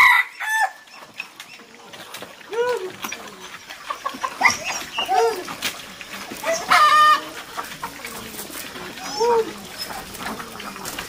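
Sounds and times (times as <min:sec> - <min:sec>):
chickens clucking and calling: 0:00.0 - 0:11.0.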